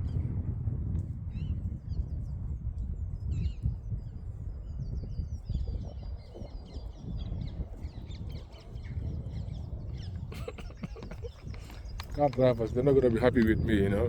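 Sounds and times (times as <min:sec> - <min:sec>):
steady low rumble: 0:00.0 - 0:14.0
small birds chirping and twittering: 0:01.3 - 0:14.0.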